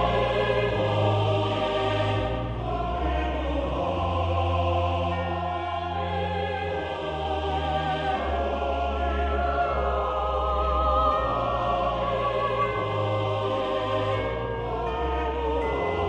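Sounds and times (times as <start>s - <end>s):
choir-like voices: 0.0s - 16.0s.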